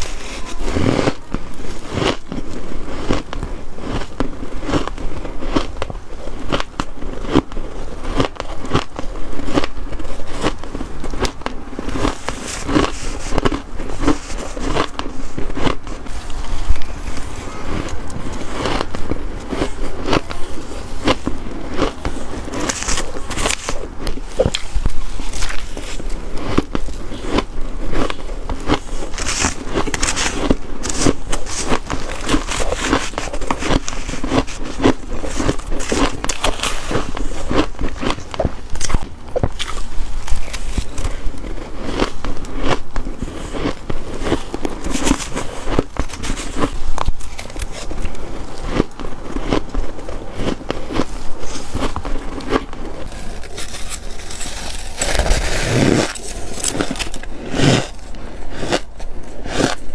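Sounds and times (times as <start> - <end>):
chewing crisp frost crunches: 0.0 - 59.9.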